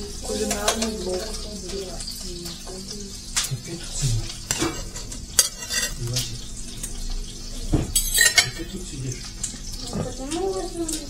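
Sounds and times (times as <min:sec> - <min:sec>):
grill sizzling: 0:00.0 - 0:11.0
metal utensils clattering on grill: 0:00.2 - 0:11.0.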